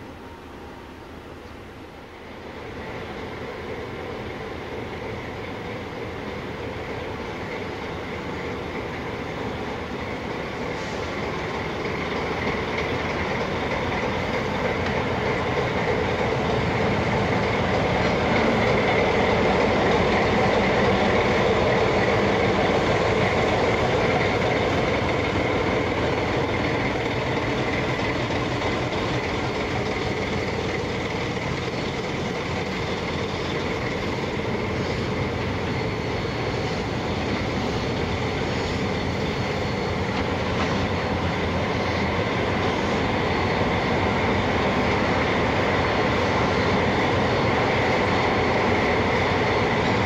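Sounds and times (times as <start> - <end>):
diesel locomotive engine running: 0.0 - 50.0
train rolling noise: 0.0 - 50.0.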